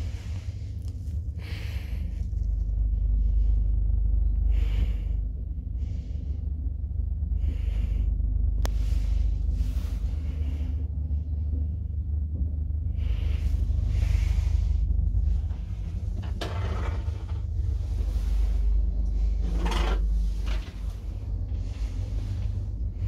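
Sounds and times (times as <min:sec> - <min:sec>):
elevator low rumble: 0:00.0 - 0:23.0.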